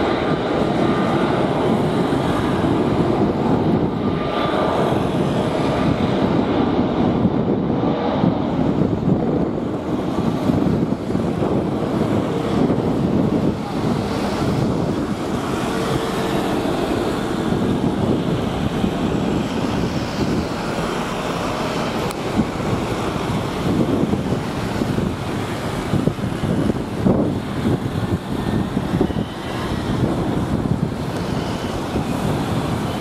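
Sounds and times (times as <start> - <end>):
jet engines at takeoff thrust: 0.0 - 33.0
wind on microphone: 0.0 - 33.0.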